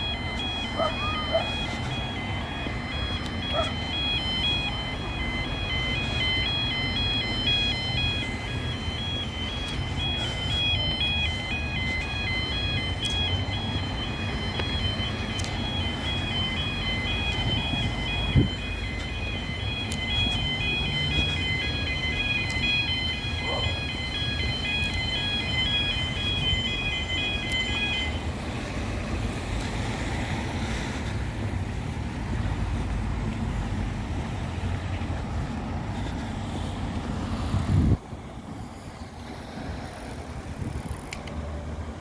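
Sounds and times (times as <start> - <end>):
two-tone warning alarm: 0.0 - 37.0
diesel railcar rumble: 0.0 - 42.0
road traffic: 0.0 - 42.0.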